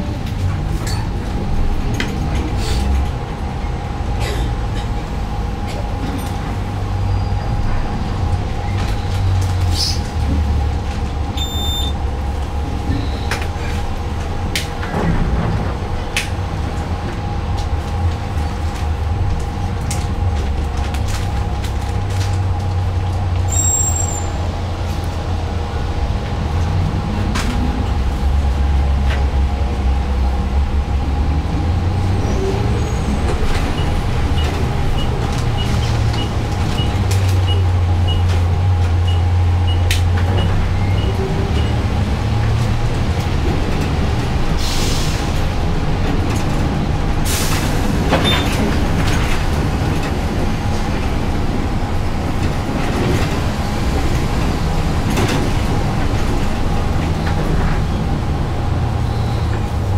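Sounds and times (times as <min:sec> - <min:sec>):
trolleybus hum and rumble: 0:00.0 - 0:59.9.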